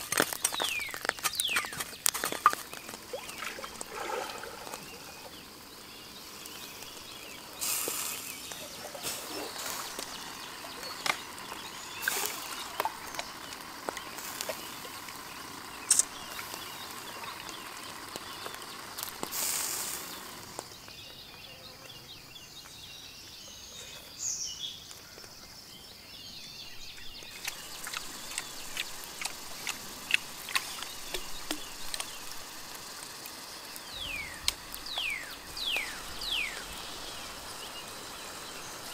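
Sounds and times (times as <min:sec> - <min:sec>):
wood fire crackling and popping: 0:00.0 - 0:21.0, 0:27.1 - 0:38.9
bird chirp: 0:00.0 - 0:38.9.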